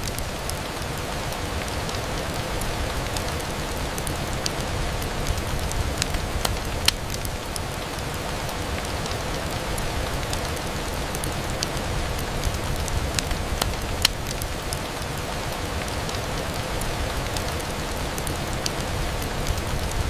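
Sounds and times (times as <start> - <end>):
rain on a window: 0.0 - 20.0
raindrops ticking: 0.0 - 20.0.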